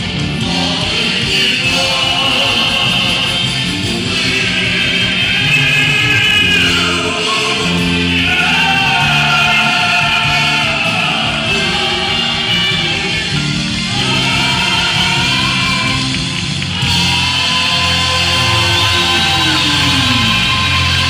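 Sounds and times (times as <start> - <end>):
drums: 0.0 - 21.0
guitars: 0.0 - 21.0
keyboards: 0.0 - 21.0
man singing lead vocals: 0.3 - 21.0
women singing backing vocals: 0.4 - 16.2, 16.8 - 21.0.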